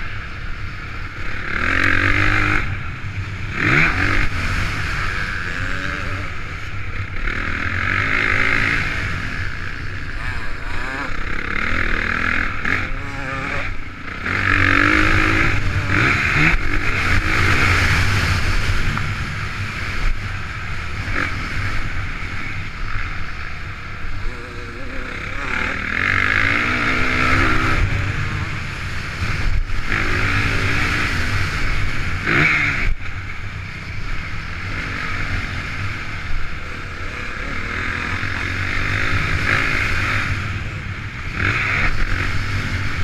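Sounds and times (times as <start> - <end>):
motocross engine revving: 0.0 - 33.3, 34.0 - 43.0.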